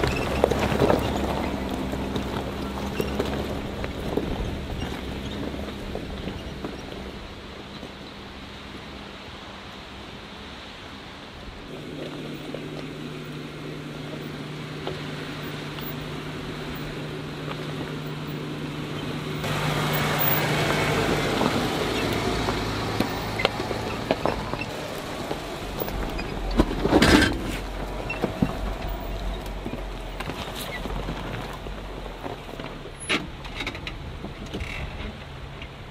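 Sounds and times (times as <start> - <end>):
vehicle knocks and jolt: 0.0 - 8.0, 11.7 - 35.9
tyre and track noise: 0.0 - 35.9
vehicle engine hum: 0.0 - 35.9.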